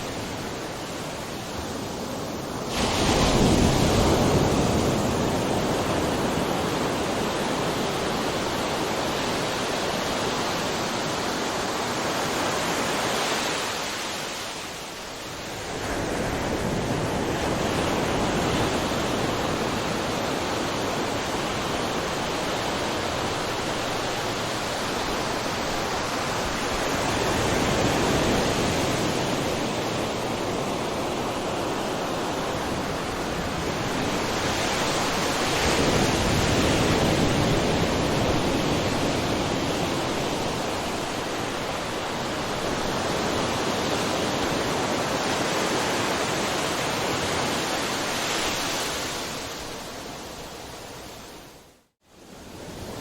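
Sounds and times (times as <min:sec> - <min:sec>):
ocean waves crashing on shore: 0:00.0 - 0:53.0.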